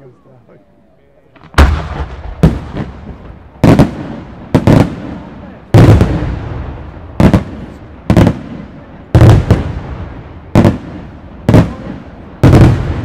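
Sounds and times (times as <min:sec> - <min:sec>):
firework shells booming: 0:01.4 - 0:13.0.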